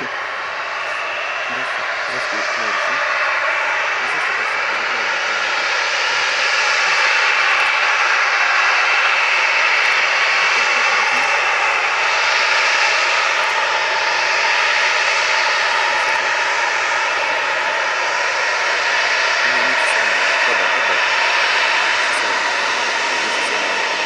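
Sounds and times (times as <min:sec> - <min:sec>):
jet engines whining and roaring: 0:00.0 - 0:24.0.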